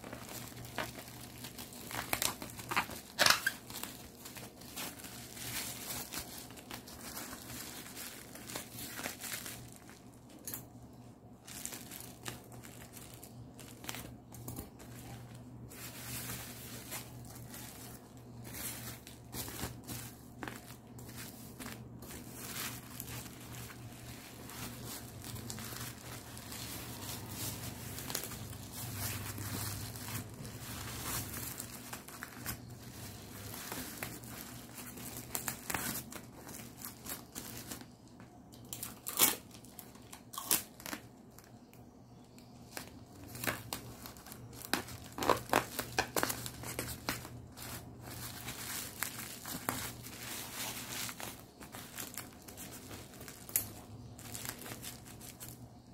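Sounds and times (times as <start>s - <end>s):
bubble wrap crinkling: 0.0s - 55.9s.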